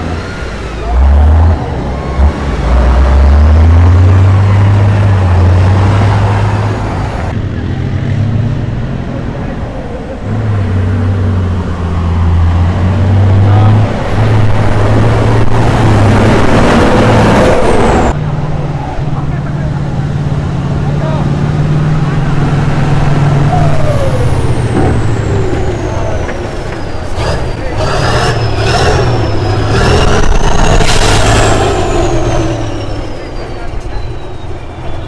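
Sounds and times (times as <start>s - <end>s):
diesel truck engines revving: 0.0s - 35.0s.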